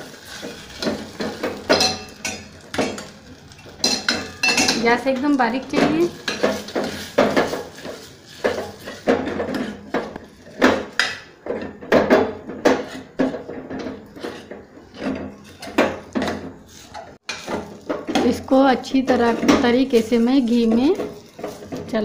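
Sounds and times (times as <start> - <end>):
spoon scraping steel pot: 1.7 - 10.2, 12.7 - 22.0.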